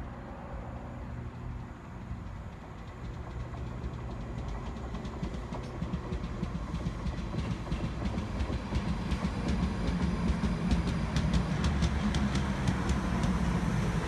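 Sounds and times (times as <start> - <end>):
train wheels rumbling on rails: 0.0 - 14.0
wheel clicks over rail joints: 2.0 - 13.6.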